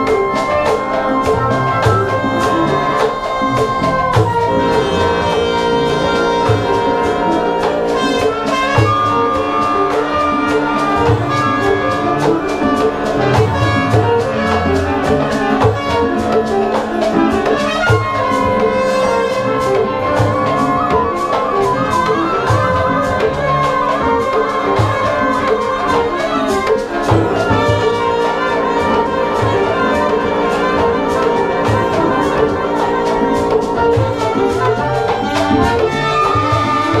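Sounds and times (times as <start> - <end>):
drum strokes: 0.0 - 37.0
ensemble of winds brass and strings: 0.0 - 37.0
flute lead: 0.0 - 37.0.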